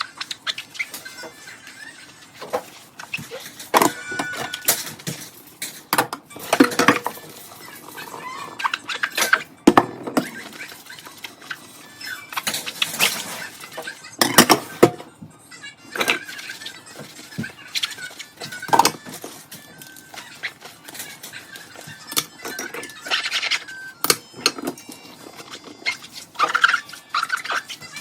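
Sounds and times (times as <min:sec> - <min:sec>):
dishes and cutlery clinking: 0:00.2 - 0:28.0.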